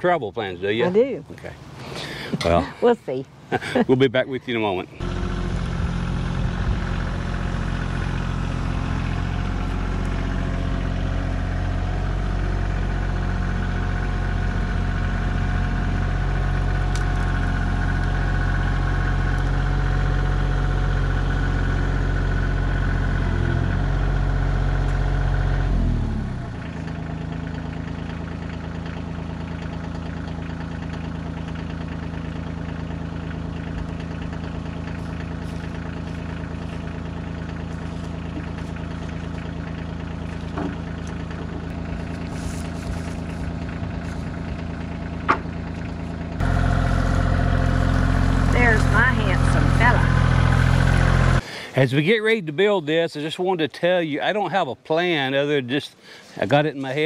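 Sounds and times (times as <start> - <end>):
tractor diesel engine running: 0.0 - 51.8.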